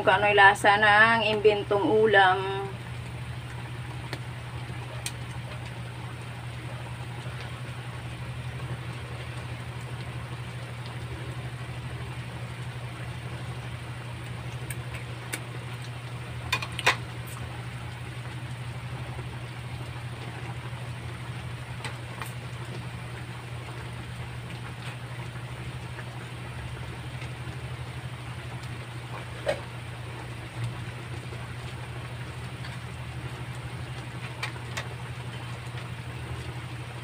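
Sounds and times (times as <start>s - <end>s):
gas burner hum and hiss: 0.0s - 37.0s
curry simmering: 2.7s - 37.0s.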